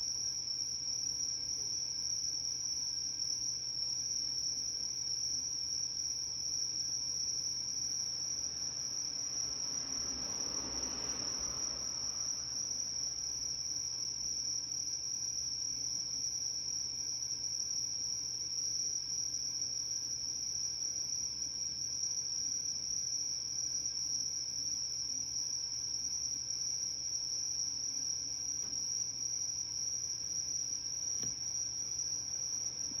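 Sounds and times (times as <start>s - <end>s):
cricket trilling: 0.0s - 33.0s.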